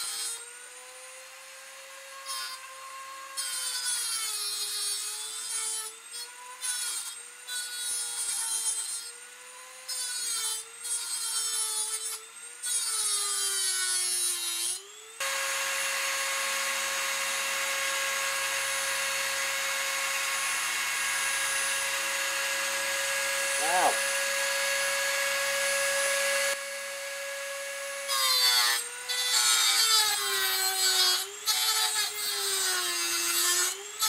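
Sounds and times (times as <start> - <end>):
rotary tool grinding metal: 0.0 - 34.0
rotary tool motor whine: 0.0 - 34.0.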